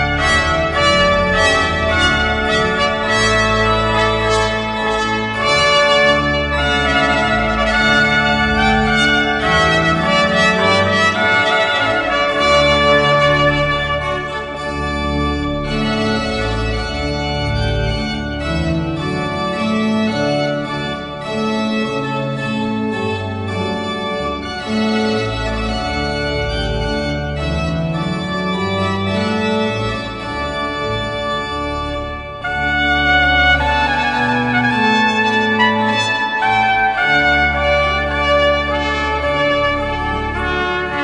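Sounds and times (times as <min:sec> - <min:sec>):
organ music: 0:00.0 - 0:41.0.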